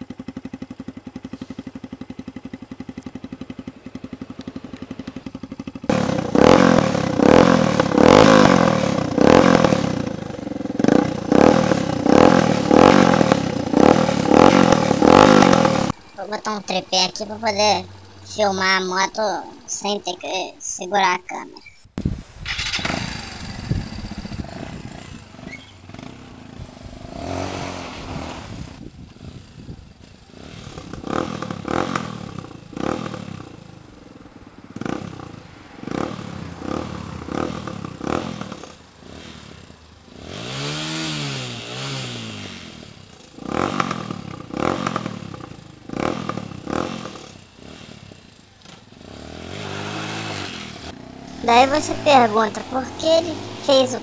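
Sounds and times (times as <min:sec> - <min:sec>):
motorcycle engine revving: 0:00.0 - 0:16.2, 0:22.4 - 0:54.0.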